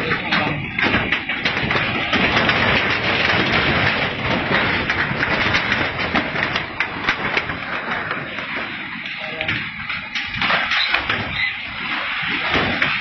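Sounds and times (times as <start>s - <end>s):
earth and debris grinding: 0.0s - 13.0s
sharp cracks and clatters: 0.0s - 13.0s.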